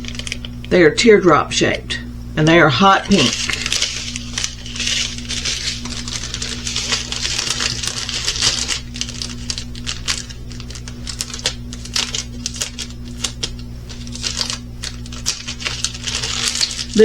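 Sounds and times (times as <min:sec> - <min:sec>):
plastic bags crinkling: 0:00.0 - 0:00.7, 0:02.8 - 0:17.0.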